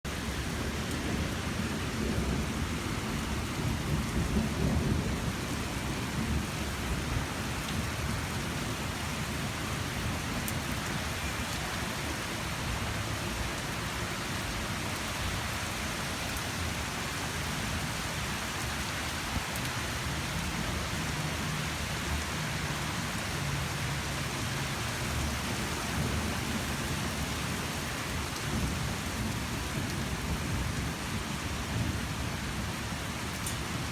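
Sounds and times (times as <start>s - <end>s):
steady rain hiss: 0.1s - 33.9s.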